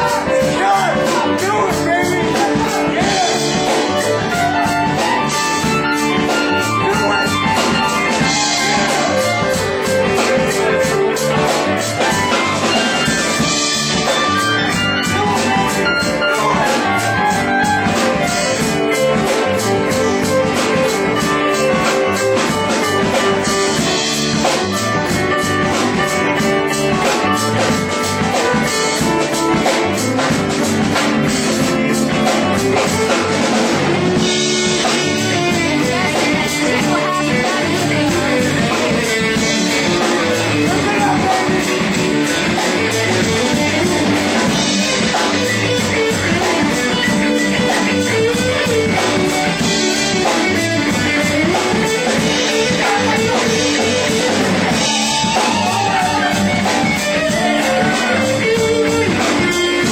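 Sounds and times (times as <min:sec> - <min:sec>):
live band playing instrumental: 0:00.0 - 0:59.9.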